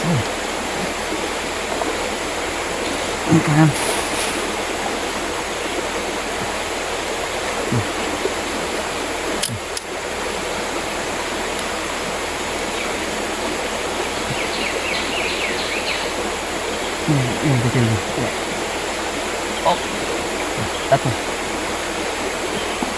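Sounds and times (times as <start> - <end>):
river water rushing: 0.0 - 22.9.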